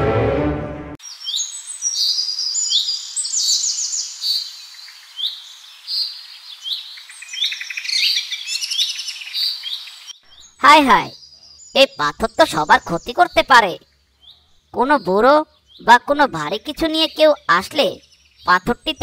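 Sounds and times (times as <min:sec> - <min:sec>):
small birds chirping and trilling: 0:01.0 - 0:19.0.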